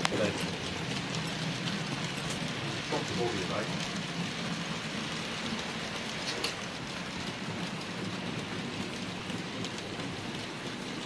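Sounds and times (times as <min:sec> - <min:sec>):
model wagons whirring on track: 0:00.0 - 0:11.0
wheels clicking over rail joints: 0:00.0 - 0:11.0.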